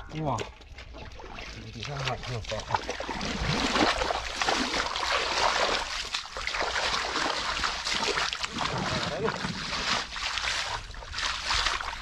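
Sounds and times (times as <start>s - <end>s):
feet splashing through mud: 0.1s - 12.0s.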